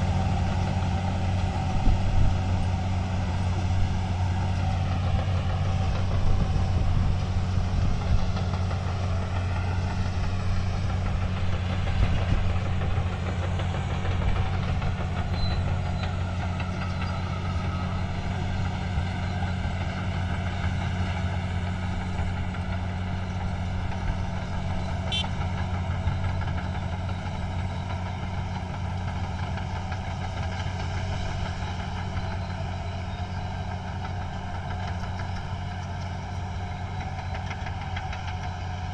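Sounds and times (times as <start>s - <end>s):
heavy machinery engine humming: 0.0s - 38.9s.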